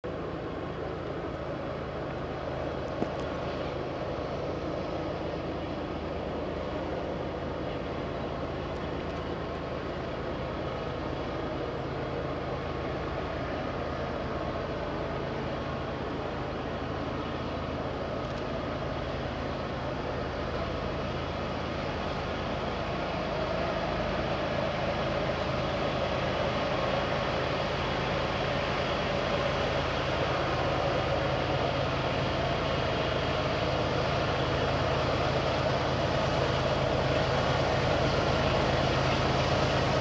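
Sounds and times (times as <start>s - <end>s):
distant locomotives droning: 0.0s - 40.0s.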